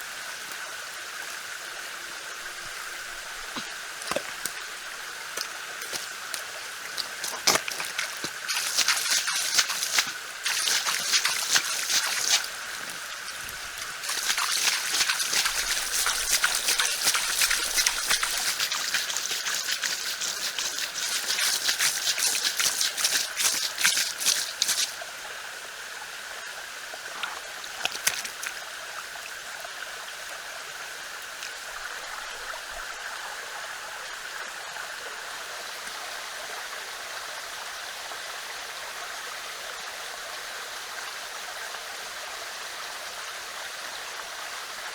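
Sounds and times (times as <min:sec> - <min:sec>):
stream water running: 0:00.0 - 0:44.9.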